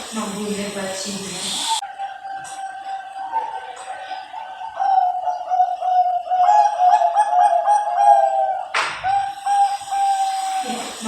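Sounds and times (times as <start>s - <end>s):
dove cooing: 1.7s - 11.0s.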